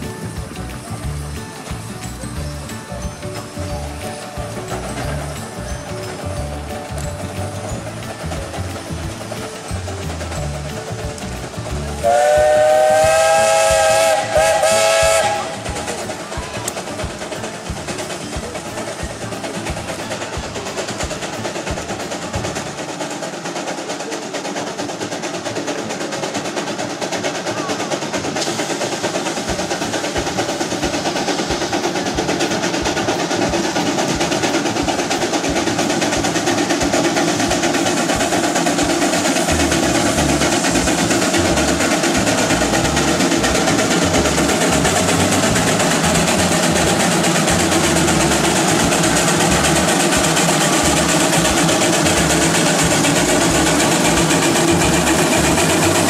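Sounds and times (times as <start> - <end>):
steam engine exhaust chuffing: 0.0 - 56.0.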